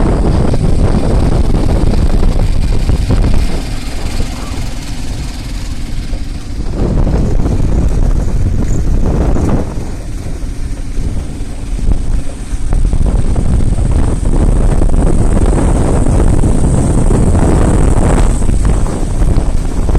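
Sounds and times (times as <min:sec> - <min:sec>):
vehicle running: 0:00.0 - 0:19.9
wind buffeting microphone: 0:00.0 - 0:19.9.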